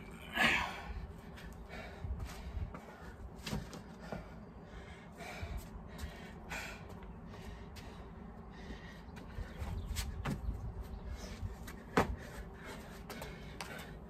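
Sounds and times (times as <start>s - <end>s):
man breathing hard: 0.1s - 9.7s, 11.0s - 14.0s.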